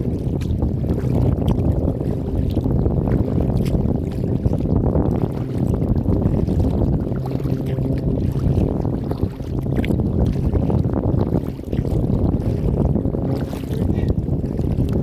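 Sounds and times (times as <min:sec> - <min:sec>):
faint water splashes: 0:00.0 - 0:15.0
wind buffeting microphone: 0:00.0 - 0:15.0.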